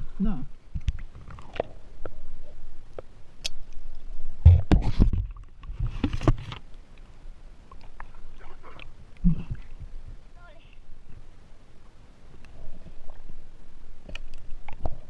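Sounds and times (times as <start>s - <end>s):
stream water sloshing and splashing: 0.7s - 15.0s.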